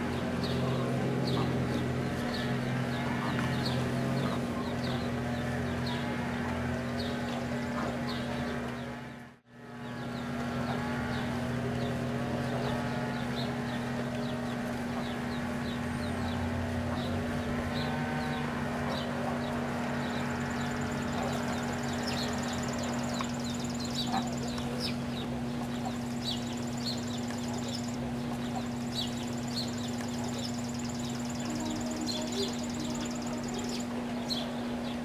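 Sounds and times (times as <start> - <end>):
ducklings peeping: 0.0 - 35.0
steady low hum: 0.0 - 35.0.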